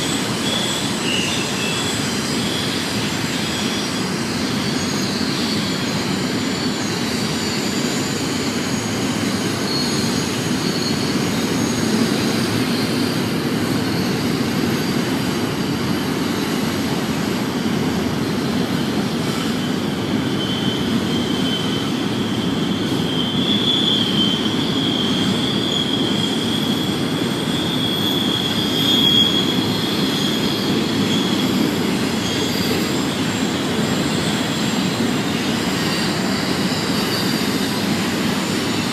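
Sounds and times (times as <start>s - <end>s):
freight train cars rumbling: 0.0s - 38.9s
wheel flange squeal: 0.0s - 38.9s.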